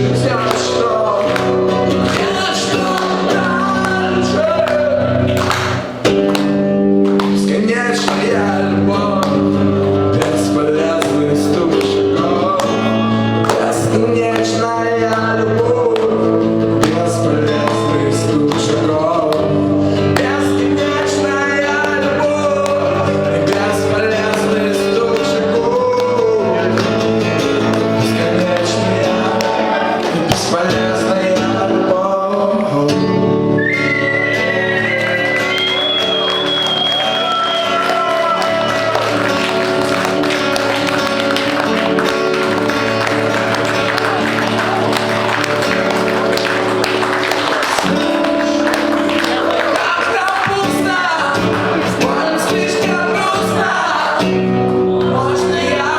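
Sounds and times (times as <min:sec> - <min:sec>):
person singing: 0:00.0 - 0:05.3, 0:07.2 - 0:33.7, 0:40.7 - 0:55.9
strummed acoustic guitar: 0:00.0 - 0:55.9.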